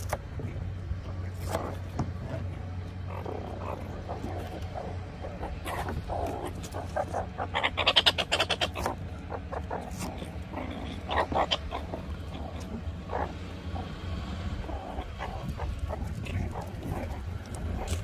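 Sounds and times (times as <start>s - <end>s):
meerkats chattering: 0.0s - 18.0s.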